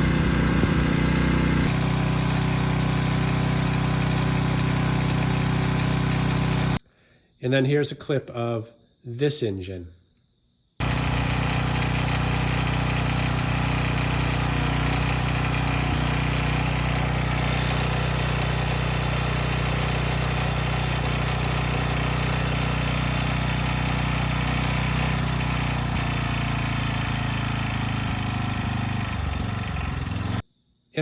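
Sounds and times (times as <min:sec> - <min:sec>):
generator engine running: 0:00.0 - 0:06.8, 0:10.8 - 0:30.4.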